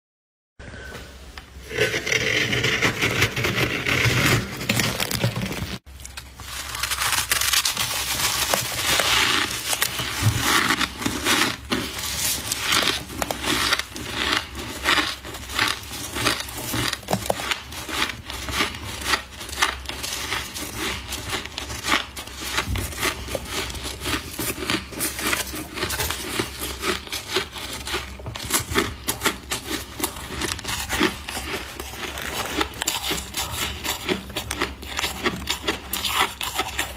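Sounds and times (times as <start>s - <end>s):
frost crunching while chewed: 4.7s - 36.9s.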